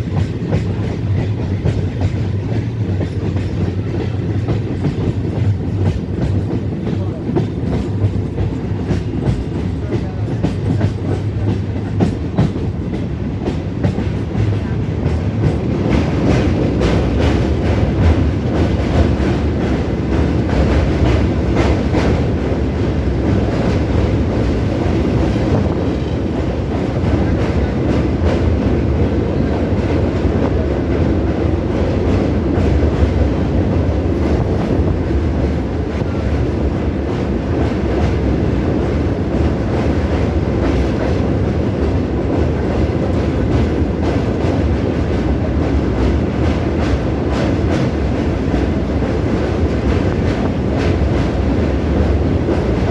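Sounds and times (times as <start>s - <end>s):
train rumbling and rattling: 0.0s - 52.9s.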